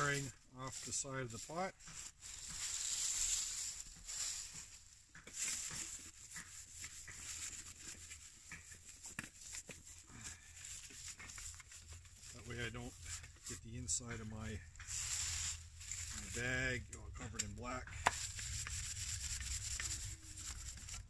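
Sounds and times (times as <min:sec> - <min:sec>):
dry leaves scrubbing a metal pot: 0:00.0 - 0:21.0.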